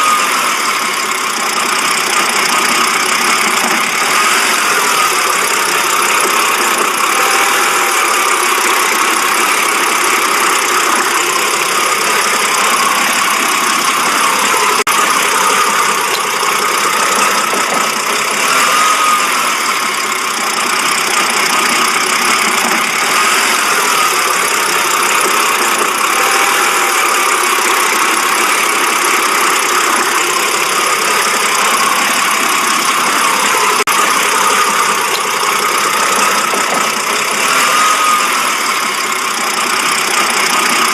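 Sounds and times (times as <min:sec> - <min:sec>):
car engine idling roughly: 0:00.0 - 0:40.9.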